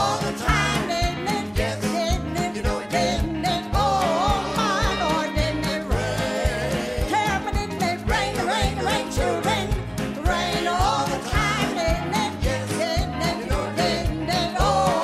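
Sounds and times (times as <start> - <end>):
band playing: 0.0 - 15.0
drums beating: 0.0 - 15.0
gospel vocal group singing: 0.0 - 15.0.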